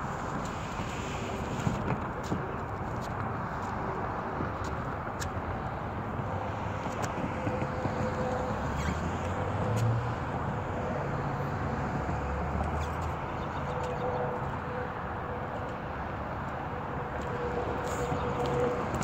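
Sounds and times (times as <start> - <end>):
outdoor background rumble: 0.0 - 19.0.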